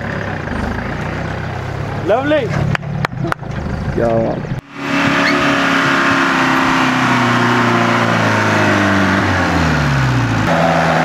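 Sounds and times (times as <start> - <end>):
engine pulling hard uphill: 0.0 - 11.0.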